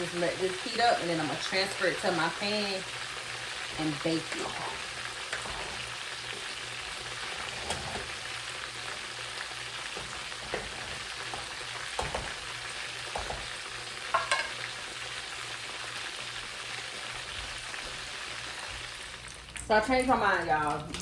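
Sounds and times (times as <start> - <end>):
chicken sizzling in oil: 0.0 - 20.8.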